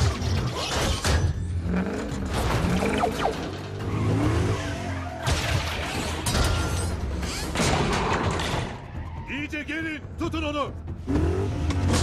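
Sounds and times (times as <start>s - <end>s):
film score music: 0.0s - 12.0s.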